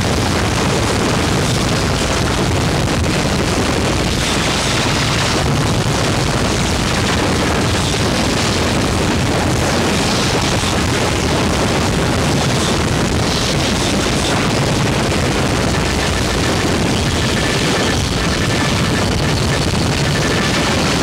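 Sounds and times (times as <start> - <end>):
harsh distorted noise: 0.0 - 21.0.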